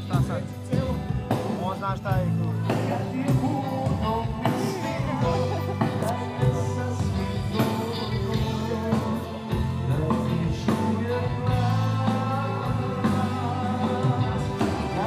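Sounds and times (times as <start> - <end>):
electric guitar: 0.0 - 15.0
person singing: 2.6 - 15.0.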